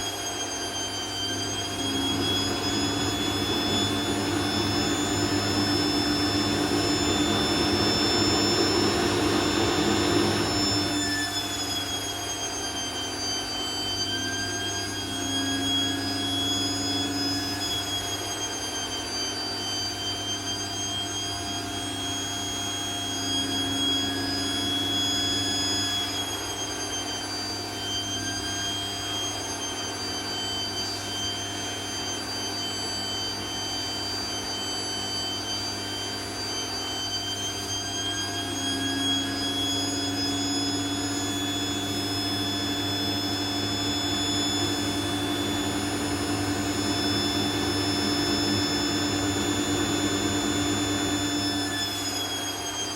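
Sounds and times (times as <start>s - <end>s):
vacuum cleaner whining: 0.0s - 52.9s.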